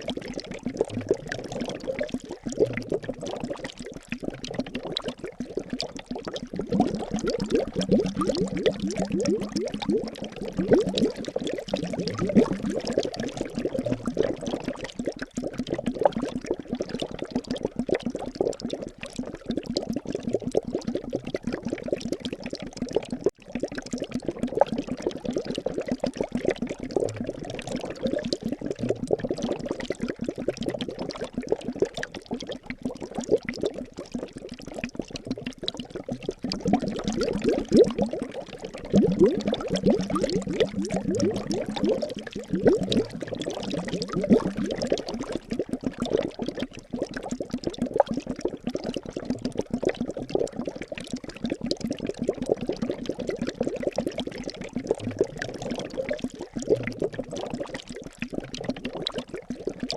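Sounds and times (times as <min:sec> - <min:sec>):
liquid bubbling and gurgling: 0:00.0 - 0:59.9.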